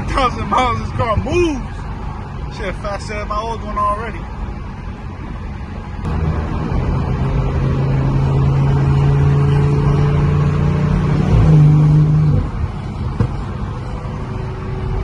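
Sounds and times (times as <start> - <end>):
car engine and exhaust accelerating: 0.0 - 15.0.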